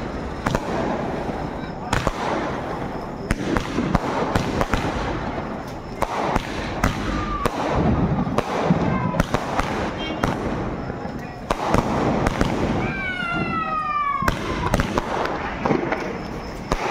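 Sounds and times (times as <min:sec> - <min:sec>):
firecrackers banging: 0:00.0 - 0:16.9
fountain firework hissing: 0:00.0 - 0:16.9.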